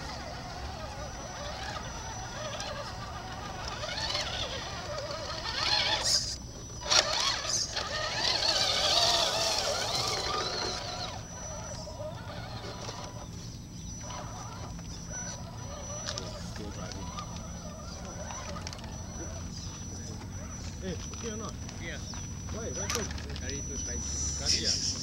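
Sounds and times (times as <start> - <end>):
rc truck motors whining: 0.0 - 25.0.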